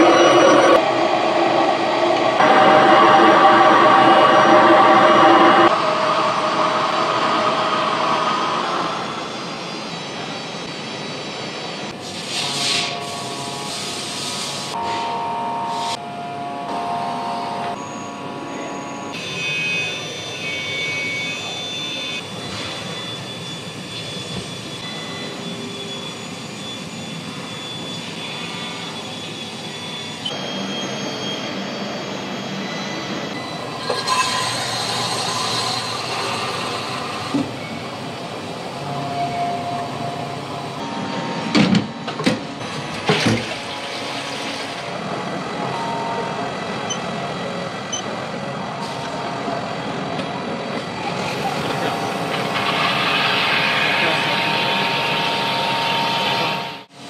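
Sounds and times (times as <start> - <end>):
machine humming and hissing: 0.0 - 57.0.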